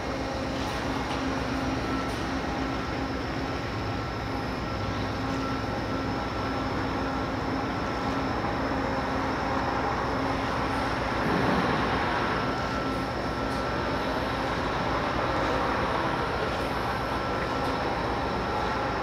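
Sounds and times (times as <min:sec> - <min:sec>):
ship engines rumbling: 0:00.0 - 0:19.0.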